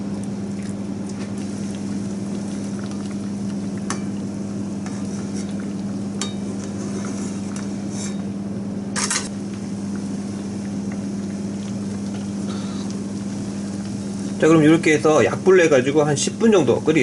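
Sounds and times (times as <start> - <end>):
broth simmering in pot: 0.0 - 17.0
low kitchen hum: 0.0 - 17.0.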